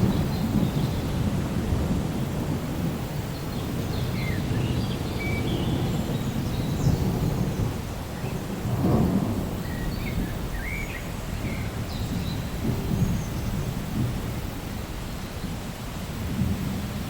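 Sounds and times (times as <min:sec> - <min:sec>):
distant thunder rumbling: 0:00.0 - 0:10.6, 0:11.4 - 0:14.6
steady rain: 0:00.0 - 0:17.0.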